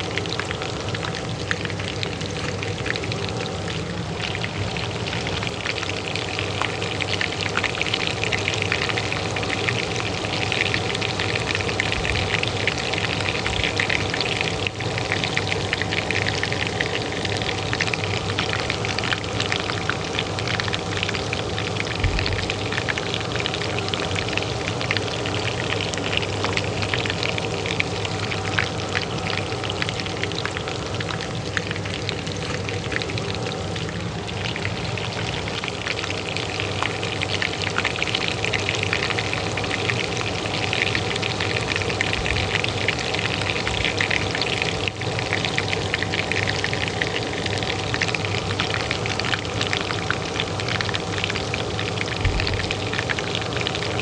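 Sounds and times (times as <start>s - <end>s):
hot oil sizzling: 0.0s - 54.0s
range hood fan humming: 0.0s - 54.0s.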